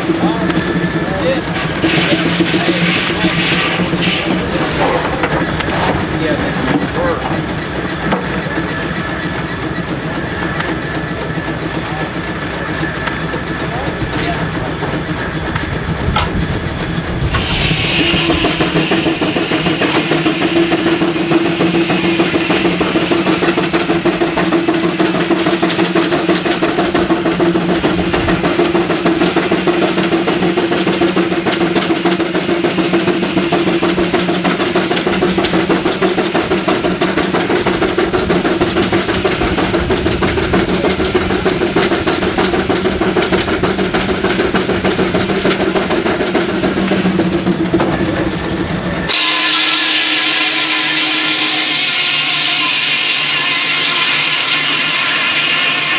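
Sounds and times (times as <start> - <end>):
sawmill machinery rattling: 0.0 - 55.9.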